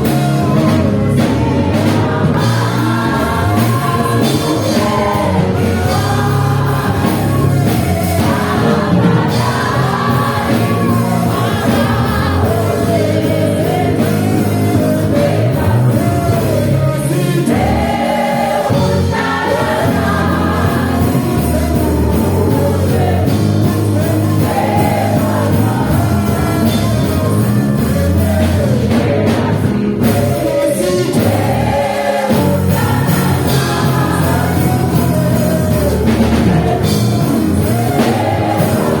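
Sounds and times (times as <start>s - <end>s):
band with bass and drums: 0.0s - 39.0s
singers singing together: 0.0s - 39.0s.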